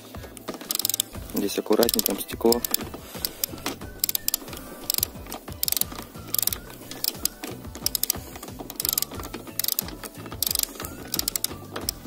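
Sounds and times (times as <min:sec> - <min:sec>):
ratchet wrench clicking: 0:00.4 - 0:12.0.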